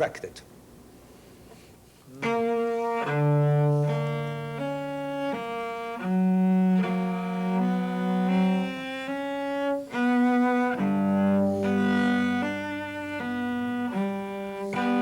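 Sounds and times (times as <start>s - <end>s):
cello bowed notes: 2.1s - 15.0s.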